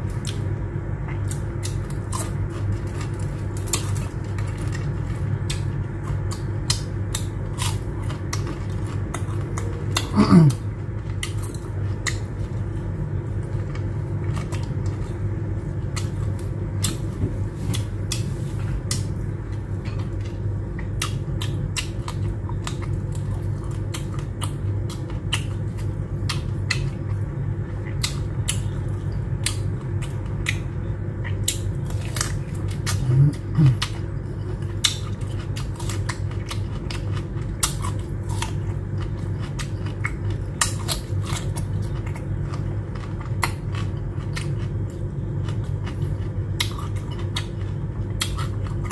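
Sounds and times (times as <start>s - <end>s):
steady low hum: 0.0s - 48.9s
chewing and lip-smacking: 0.1s - 10.2s, 11.0s - 48.9s.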